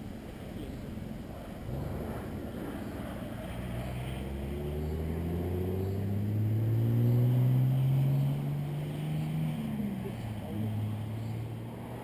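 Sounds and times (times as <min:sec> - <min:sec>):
car engine accelerating: 0:00.6 - 0:12.0.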